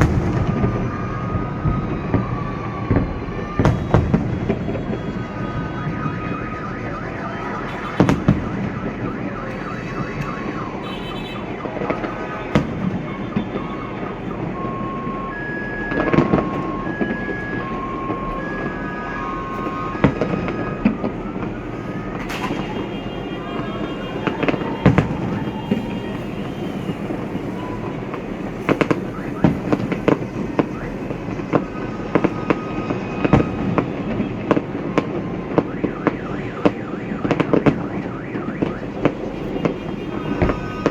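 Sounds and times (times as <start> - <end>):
crowd and street noise: 0.0 - 40.9
fireworks bangs and crackles: 0.0 - 40.9.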